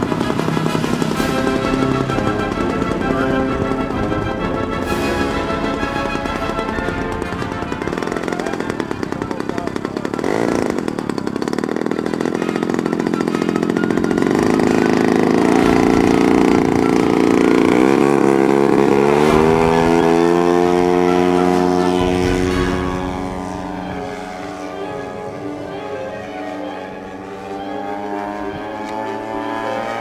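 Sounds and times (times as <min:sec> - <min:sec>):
model aircraft engine revving: 0:00.0 - 0:30.0.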